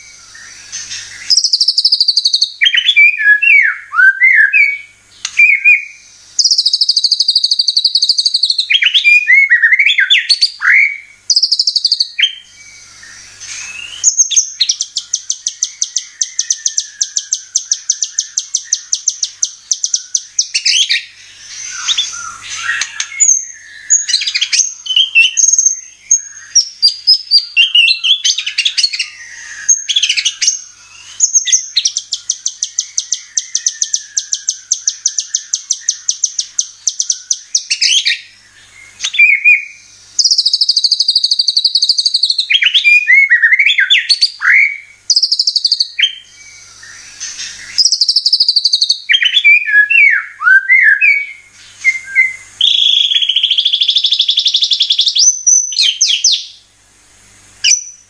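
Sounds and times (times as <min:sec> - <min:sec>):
songbird singing fluty whistles: 0:00.0 - 0:56.6, 0:57.6 - 0:58.0.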